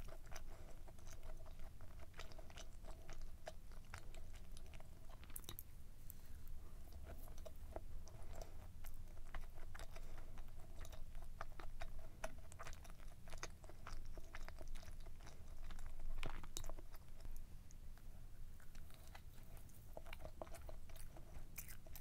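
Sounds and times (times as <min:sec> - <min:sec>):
person chewing with wet clicks: 0:00.0 - 0:06.2, 0:06.9 - 0:22.0.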